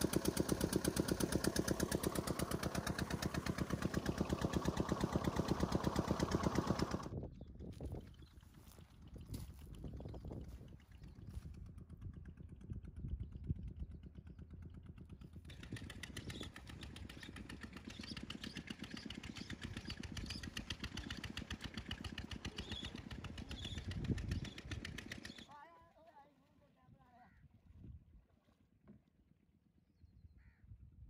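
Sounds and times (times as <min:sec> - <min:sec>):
small engine running: 0:00.0 - 0:25.8.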